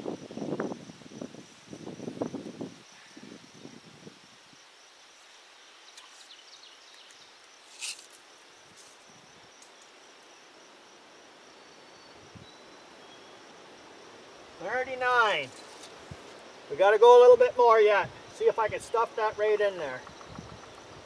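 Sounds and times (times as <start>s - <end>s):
high insect hum: 0.0s - 21.0s.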